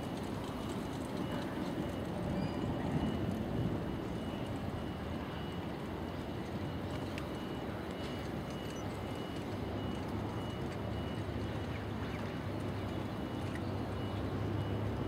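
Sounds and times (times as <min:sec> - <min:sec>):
faint scattered clicks: 0:00.0 - 0:04.9, 0:05.6 - 0:14.8.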